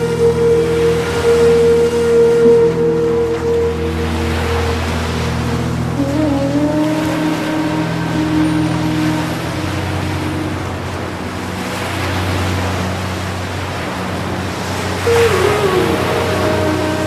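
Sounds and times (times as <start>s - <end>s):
ocean waves washing: 0.0s - 17.0s
soft held music tones: 0.0s - 17.0s.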